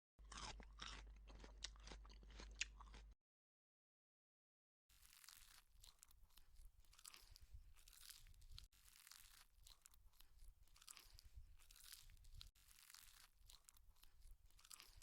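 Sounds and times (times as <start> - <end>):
chewing noodles: 0.2 - 3.2, 4.9 - 15.0.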